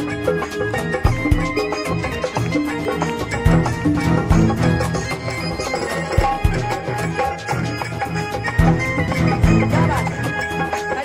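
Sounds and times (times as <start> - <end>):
drums beating a rhythm: 0.0 - 11.0
sustained melodic notes: 0.0 - 11.0.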